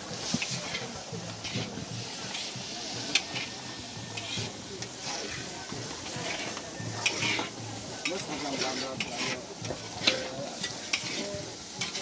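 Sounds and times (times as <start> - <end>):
food sizzling in wok: 0.0 - 12.0
people talking: 0.0 - 12.0.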